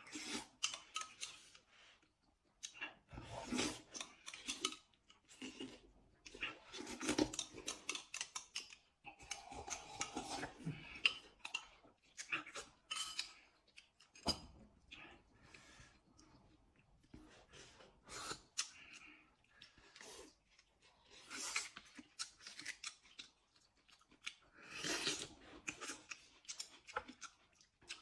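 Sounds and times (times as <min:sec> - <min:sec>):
noodles slurped and chewed: 0:00.0 - 0:28.0.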